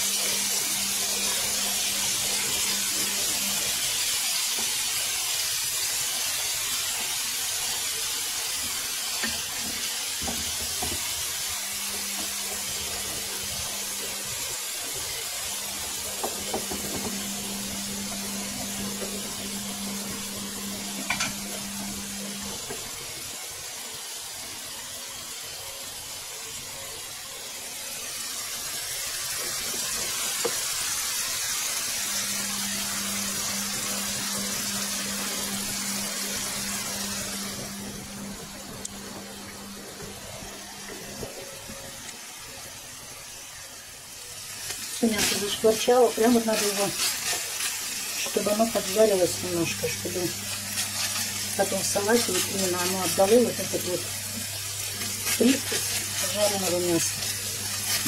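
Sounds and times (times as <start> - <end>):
meat sizzling in a pan: 0.0 - 58.0.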